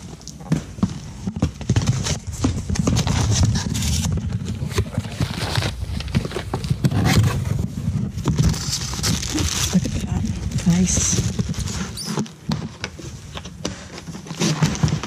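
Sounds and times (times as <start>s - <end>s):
cardboard box being opened: 0.6s - 15.0s.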